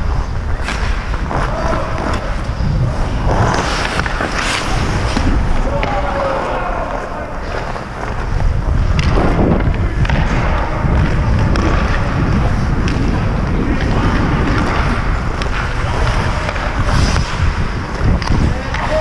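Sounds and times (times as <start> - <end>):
wind on microphone: 0.0 - 7.4, 8.1 - 19.0
skates scraping on ice: 0.0 - 19.0.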